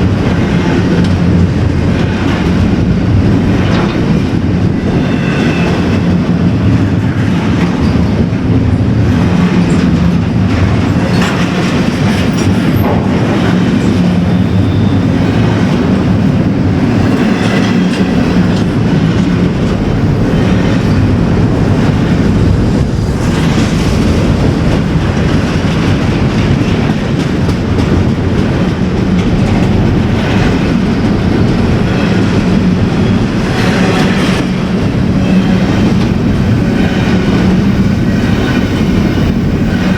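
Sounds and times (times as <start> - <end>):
train rumbling past: 0.0 - 39.9
wheels clacking over rail joints: 0.0 - 39.9.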